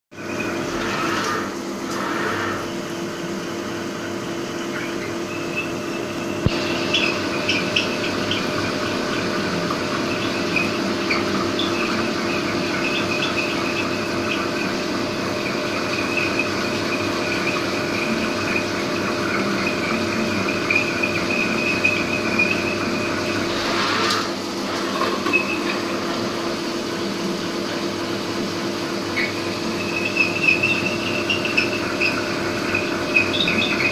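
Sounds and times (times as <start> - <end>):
machine hum: 0.1 - 33.9.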